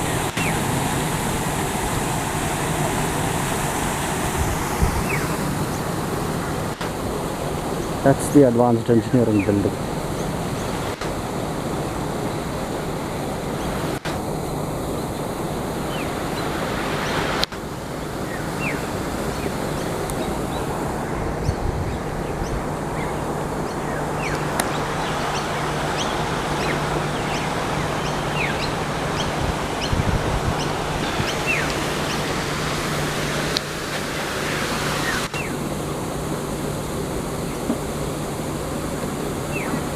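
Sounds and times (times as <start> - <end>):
small birds chirping: 0.0 - 14.1, 14.8 - 35.7, 37.4 - 39.9
steady rushing noise: 0.0 - 39.9.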